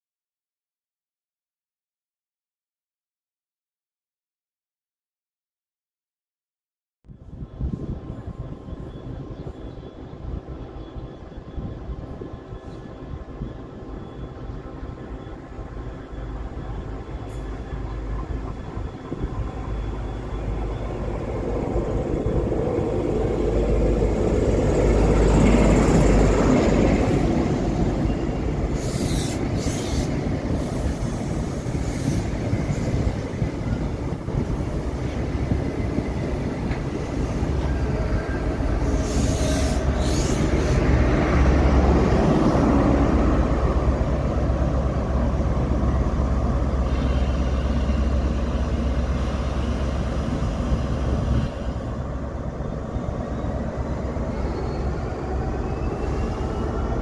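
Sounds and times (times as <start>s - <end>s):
diesel locomotive engine running: 7.2s - 57.0s
wheels squealing on rails: 7.2s - 57.0s.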